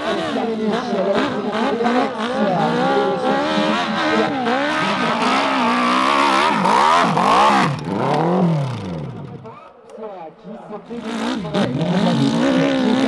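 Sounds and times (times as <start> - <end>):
motorcycle engine revving hard: 0.0 - 9.5, 10.9 - 13.0.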